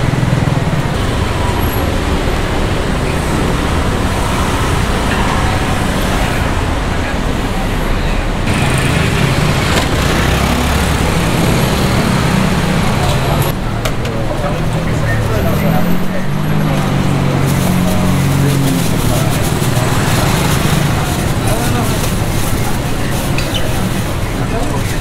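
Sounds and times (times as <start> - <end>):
passing vehicles: 0.0 - 25.0.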